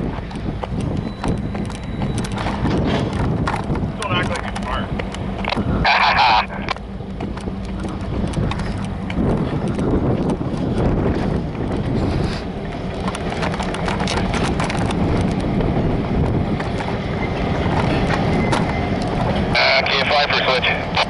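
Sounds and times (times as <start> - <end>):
wheels clacking over rail joints: 0.0 - 5.8, 6.6 - 19.6
freight train rumbling past: 0.0 - 21.0.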